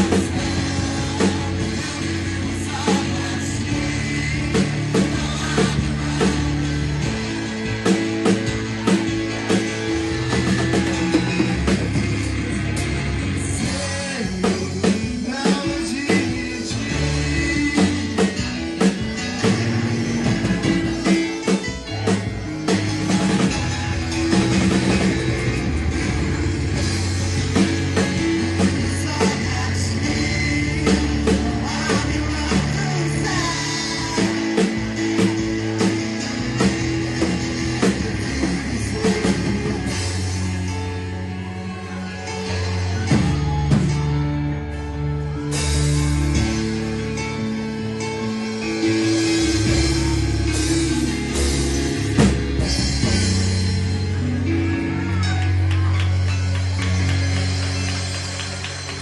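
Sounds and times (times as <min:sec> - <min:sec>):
person singing: 0:00.0 - 0:59.0
rock music: 0:00.0 - 0:59.0.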